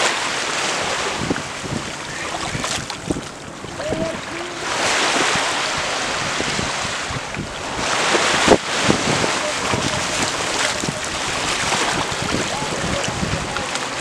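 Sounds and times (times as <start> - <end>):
surf washing on rocks: 0.0 - 14.0
wind buffeting microphone: 0.6 - 14.0.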